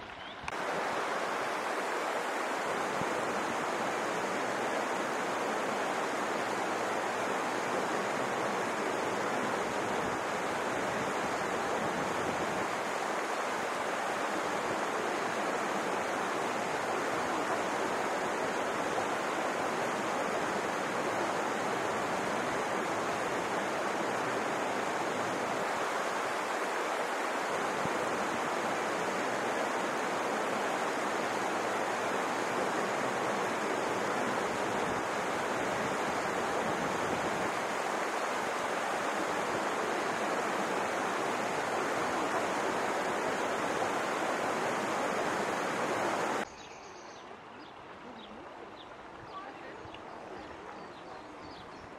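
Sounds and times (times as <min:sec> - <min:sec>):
stream rushing over rocks: 0:00.0 - 0:46.5.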